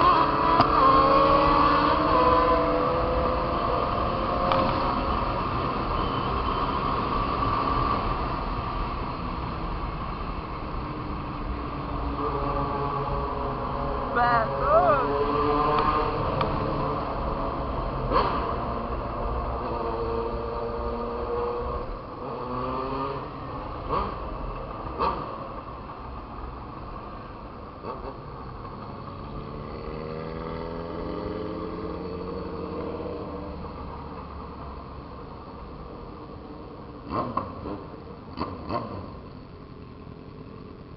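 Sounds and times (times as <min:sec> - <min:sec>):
road noise rushing: 0:00.0 - 0:40.9.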